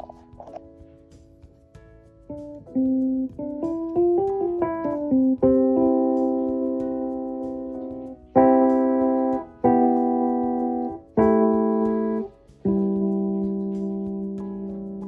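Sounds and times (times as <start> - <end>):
digital piano playing: 0.0 - 15.0.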